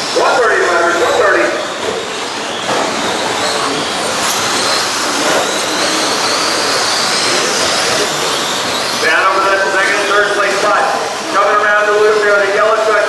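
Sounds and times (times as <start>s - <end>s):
high electric motor whine: 0.0s - 12.6s.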